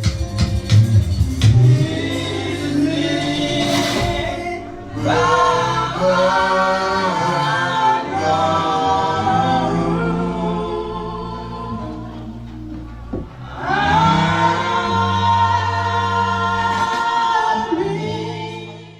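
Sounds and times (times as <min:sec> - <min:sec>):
choir singing a hymn: 0:01.6 - 0:18.9.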